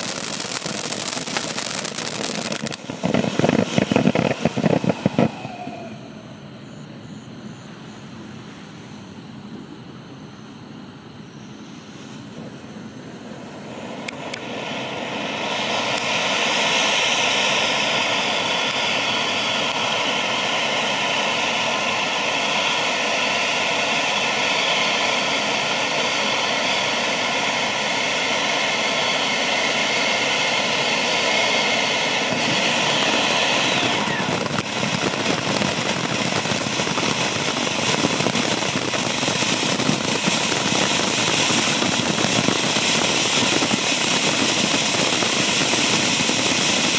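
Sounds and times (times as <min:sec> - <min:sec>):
firework crackling: 0:00.0 - 0:06.4, 0:11.9 - 0:46.9
firework fountain hissing: 0:00.0 - 0:10.2, 0:11.4 - 0:46.9.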